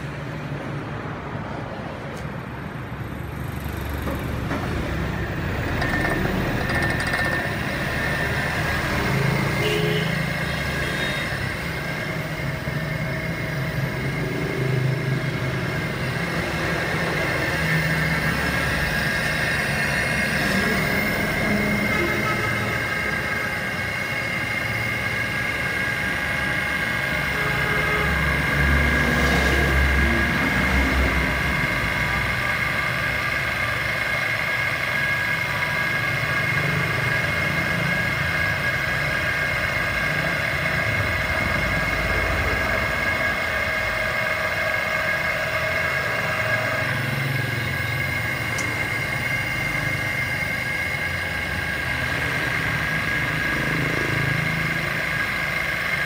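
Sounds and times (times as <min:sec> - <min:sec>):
hydraulic pump whine: 0:00.0 - 0:56.0.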